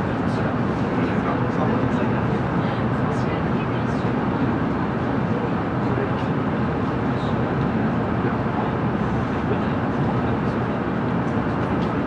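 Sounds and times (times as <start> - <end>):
passengers' voices: 0.0 - 12.0
train low rumble: 0.0 - 12.0.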